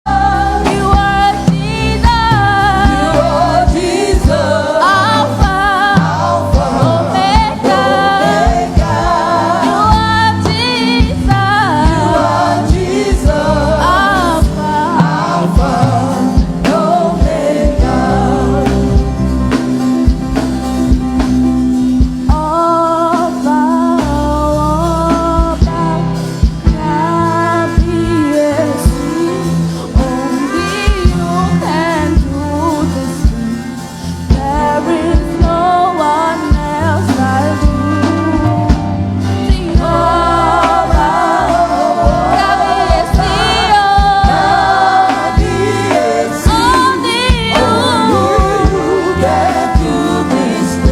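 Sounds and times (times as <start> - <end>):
band with bass: 0.0 - 50.9
gospel singing with lead vocals: 0.0 - 50.9
steady drum beat: 0.1 - 50.9.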